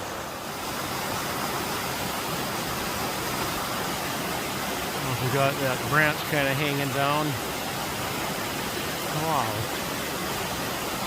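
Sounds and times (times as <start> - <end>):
waterfall and creek rapids: 0.0 - 11.0.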